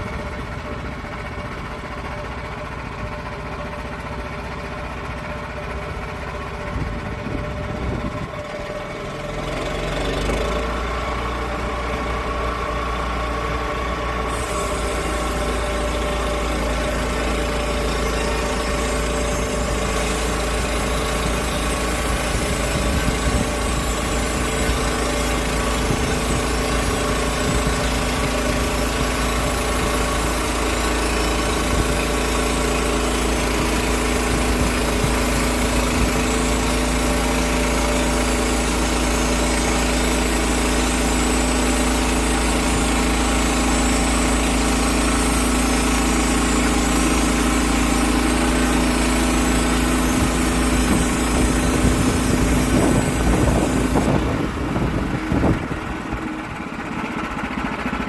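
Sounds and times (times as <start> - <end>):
sawmill engine under load: 0.0 - 58.0.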